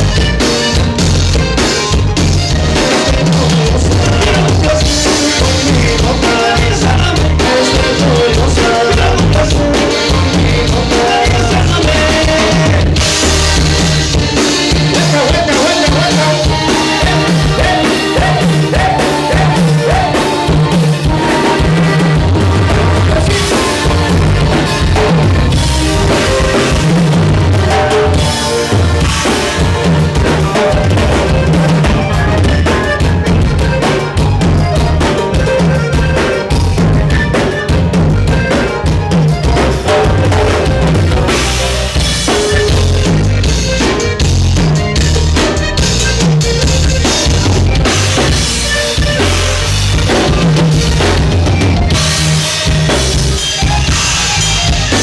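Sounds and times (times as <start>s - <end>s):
accordion: 0.0s - 55.0s
drum kit beat: 0.0s - 55.0s
electric bass: 0.0s - 55.0s
live dance band playing: 0.0s - 55.0s.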